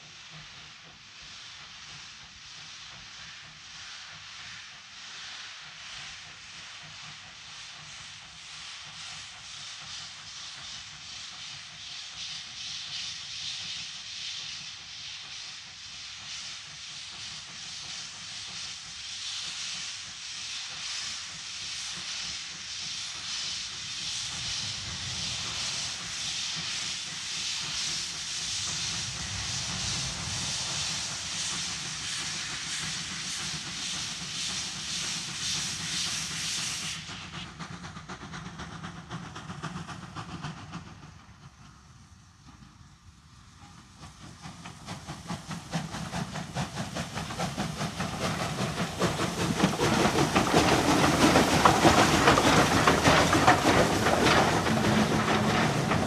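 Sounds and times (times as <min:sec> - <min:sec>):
steam hissing: 0:00.0 - 0:56.0
locomotive exhaust puffs: 0:06.7 - 0:56.0.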